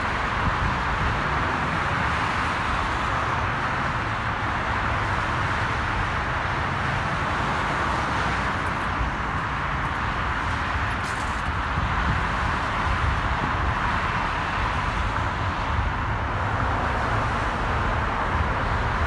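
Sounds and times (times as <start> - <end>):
freeway traffic noise: 0.0 - 19.0.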